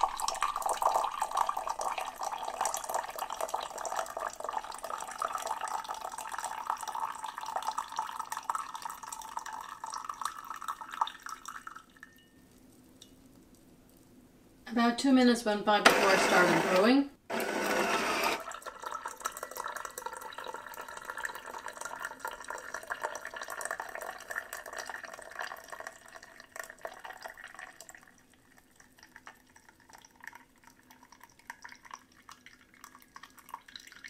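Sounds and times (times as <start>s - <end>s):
tea pouring into a ceramic mug: 0.0s - 12.4s, 18.3s - 34.0s.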